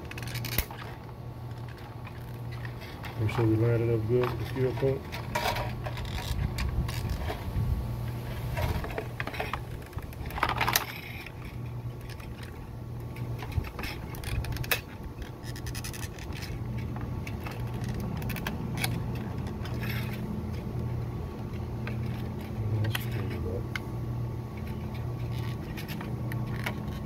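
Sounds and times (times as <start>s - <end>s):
plastic parts scraping and clicking: 0.0s - 7.5s, 8.2s - 23.9s, 24.6s - 27.0s.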